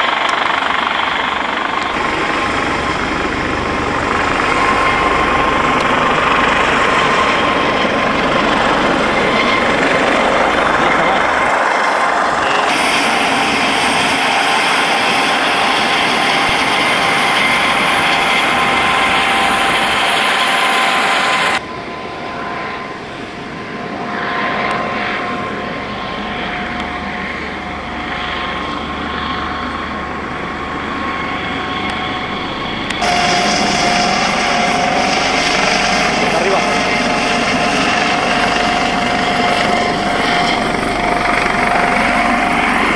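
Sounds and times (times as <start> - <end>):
helicopter rotor and turbine: 0.0 - 42.9
turbine whine: 0.0 - 42.9.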